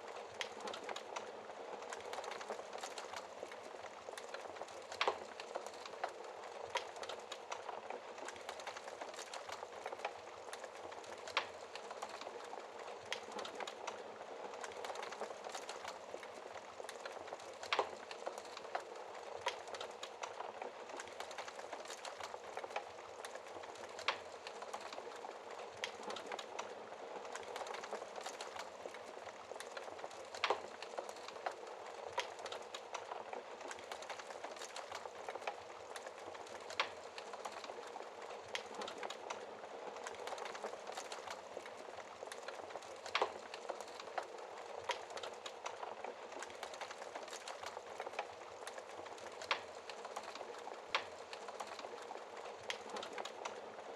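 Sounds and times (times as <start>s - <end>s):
fire crackles and pops: 0.0s - 53.9s
wood fire burning: 0.0s - 53.9s.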